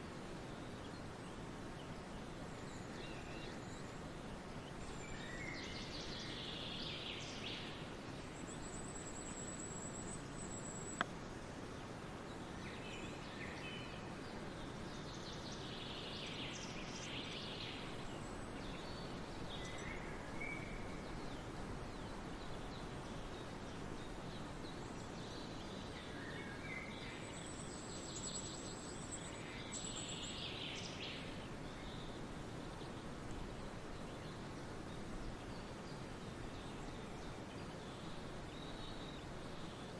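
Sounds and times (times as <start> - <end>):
background hiss: 0.0 - 39.9
birds singing: 0.5 - 11.1, 11.8 - 39.9.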